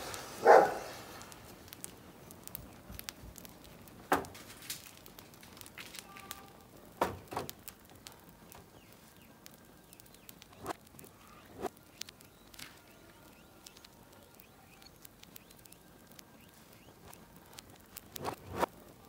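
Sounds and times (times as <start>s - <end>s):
sharp pops: 0.0s - 18.9s
burning matchsticks crackling: 0.0s - 19.0s.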